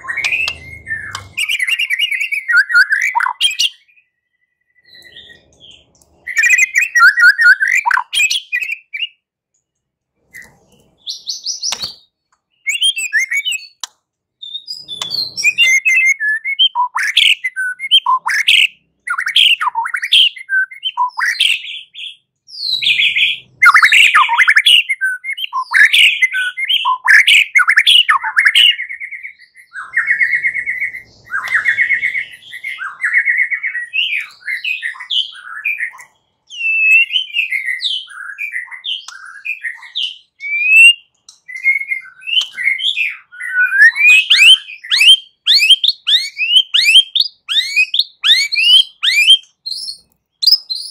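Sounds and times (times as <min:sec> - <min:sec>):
bird singing whistles and chirps: 0:00.0 - 0:09.2, 0:10.3 - 0:50.9.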